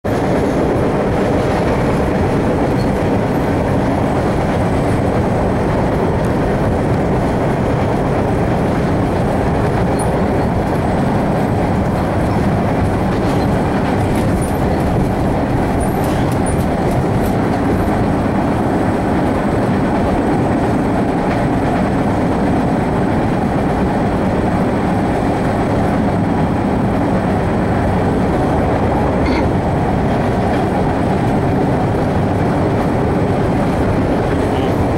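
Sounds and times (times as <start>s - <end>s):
subway car wheels rumbling on rail: 0.0s - 34.9s.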